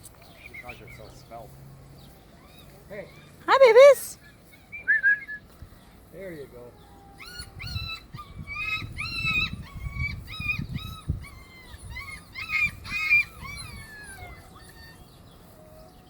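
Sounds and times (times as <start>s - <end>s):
puppies whining and yipping: 2.0s - 5.6s, 6.4s - 16.0s.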